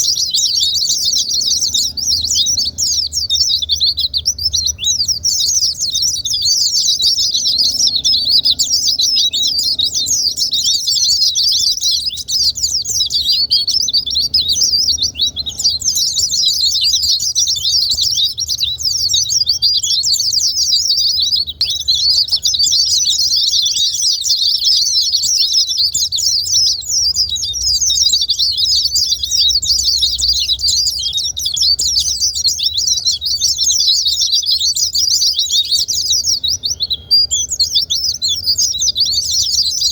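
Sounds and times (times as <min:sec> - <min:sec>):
birds twittering rapidly: 0:00.0 - 0:39.9.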